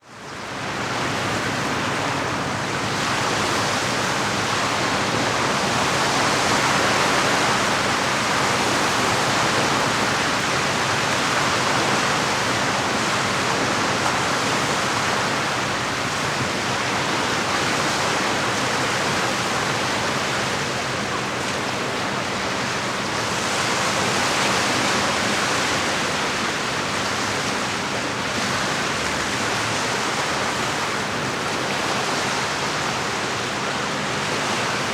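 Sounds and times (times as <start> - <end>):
water rushing: 0.6 - 34.9.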